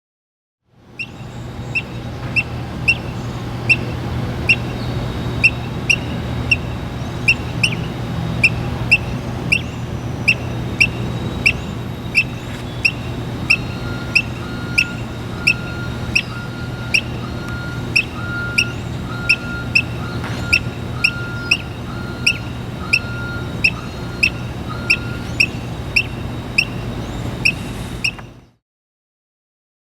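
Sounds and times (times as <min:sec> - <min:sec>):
squirrel chirping: 0:01.0 - 0:28.5.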